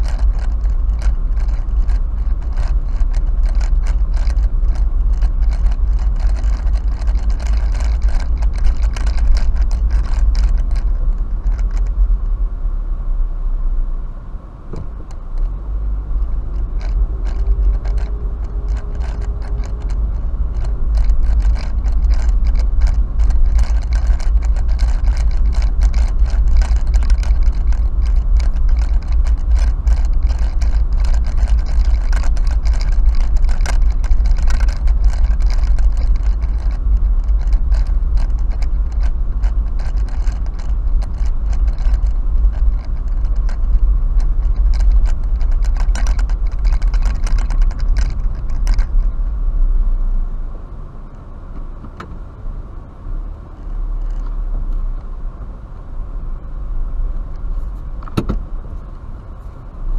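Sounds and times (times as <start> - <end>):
clicks and rattles in car: 0.0 - 12.4, 14.7 - 50.1, 51.1 - 52.3, 53.5 - 55.6, 57.2 - 59.0
low road rumble: 0.0 - 59.9.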